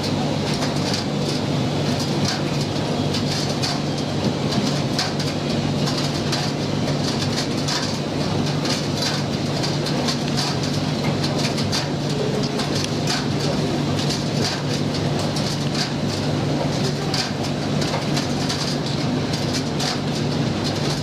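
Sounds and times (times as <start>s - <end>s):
tumble dryer humming: 0.0s - 21.0s.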